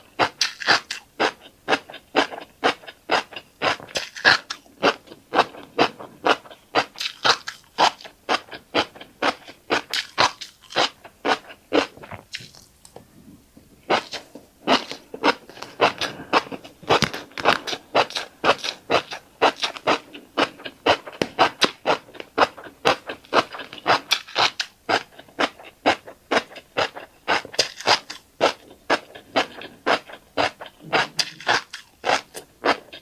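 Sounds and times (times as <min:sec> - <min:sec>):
crunchy seed chewing: 0:00.1 - 0:13.0, 0:13.8 - 0:33.0.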